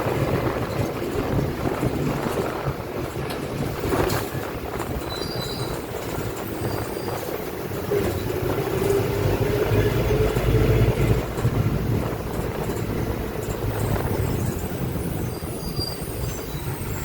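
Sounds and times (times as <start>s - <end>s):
bus drivetrain and road rumble: 0.0s - 17.0s.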